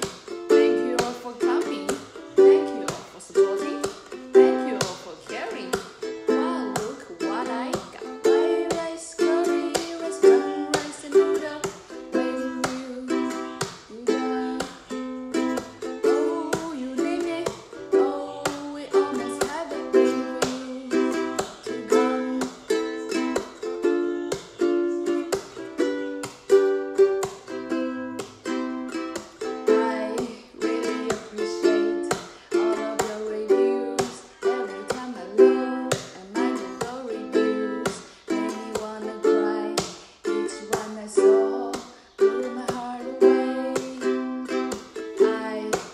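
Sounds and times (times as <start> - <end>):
ukulele strummed: 0.0 - 45.9.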